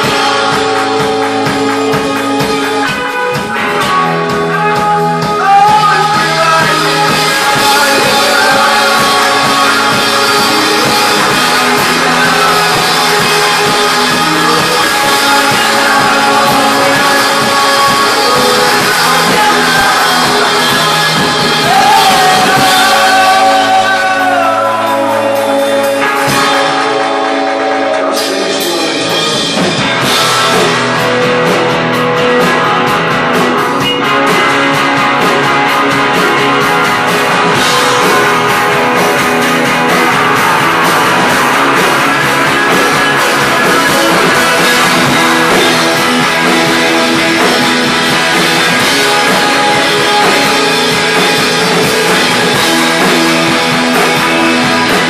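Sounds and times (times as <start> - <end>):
man singing: 0.0 - 31.2, 35.1 - 55.0
drums: 0.0 - 55.0
electric guitars: 0.0 - 55.0
keyboard: 0.0 - 55.0.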